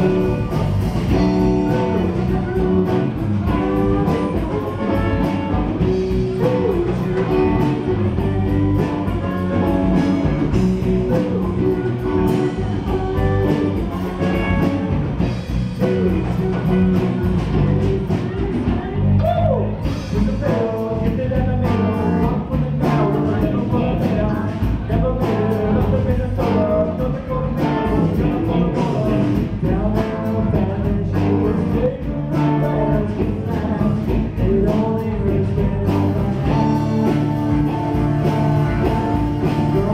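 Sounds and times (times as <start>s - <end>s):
drum kit beat: 0.0s - 39.9s
electric guitars: 0.0s - 39.9s
singer at microphone: 0.0s - 39.9s.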